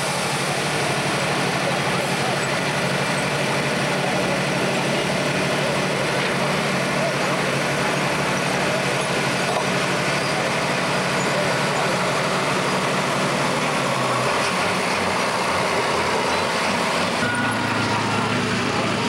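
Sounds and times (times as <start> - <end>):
another tractor engine idling: 0.0 - 19.0
tractor diesel engine idling: 0.0 - 19.0.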